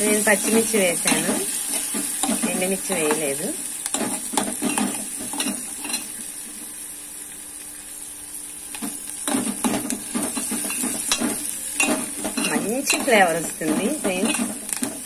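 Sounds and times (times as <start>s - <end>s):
spices frying in hot oil: 0.0s - 15.0s.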